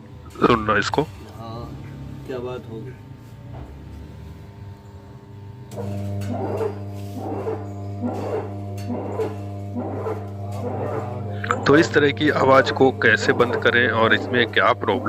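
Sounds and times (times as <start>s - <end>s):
rhythmic grinding rasp: 0.0s - 15.0s
washing machine humming: 0.0s - 15.0s.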